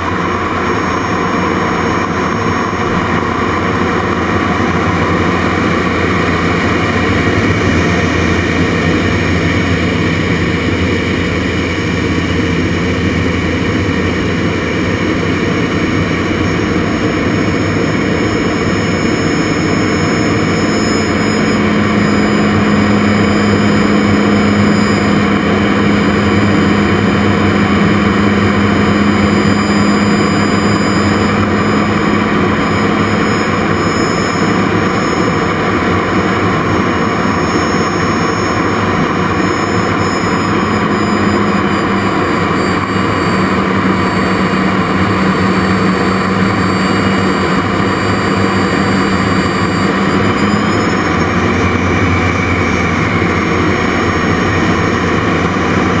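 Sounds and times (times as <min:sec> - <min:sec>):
jet engine roar: 0:00.0 - 0:56.0.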